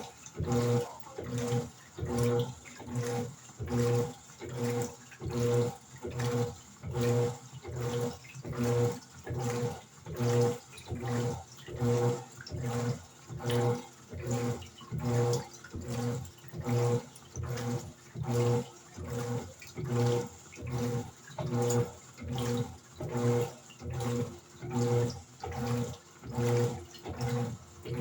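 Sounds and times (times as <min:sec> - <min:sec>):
washing machine motor whirring: 0:00.0 - 0:28.0
water sloshing: 0:00.0 - 0:28.0.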